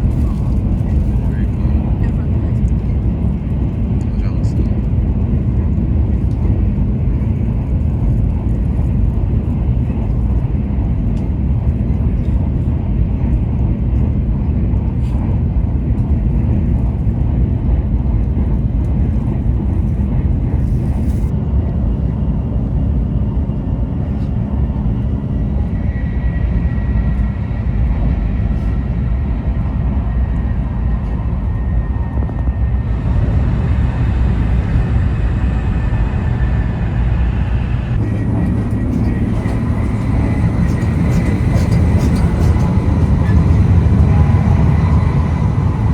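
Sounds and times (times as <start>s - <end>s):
train low rumble: 0.0s - 45.9s.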